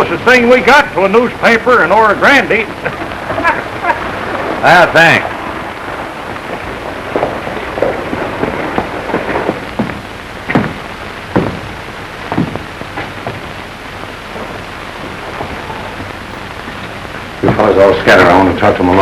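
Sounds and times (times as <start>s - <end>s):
film soundtrack hiss and crackle: 0.0s - 19.0s.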